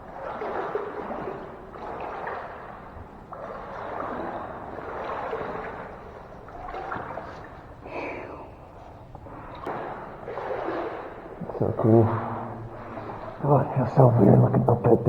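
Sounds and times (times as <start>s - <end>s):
footsteps splashing through water: 0.0s - 8.3s, 9.2s - 13.7s.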